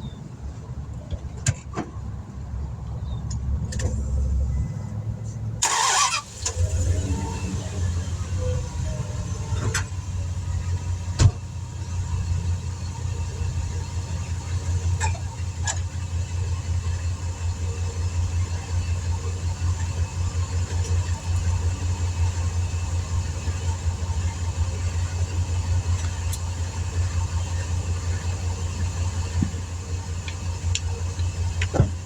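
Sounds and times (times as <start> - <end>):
engine idling: 3.8 - 32.0.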